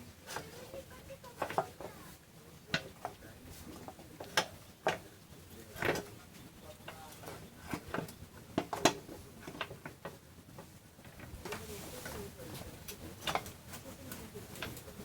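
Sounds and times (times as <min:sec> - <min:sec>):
sharp clicks and knocks: 0:00.3 - 0:02.1, 0:02.7 - 0:05.1, 0:05.7 - 0:11.7, 0:12.8 - 0:15.0.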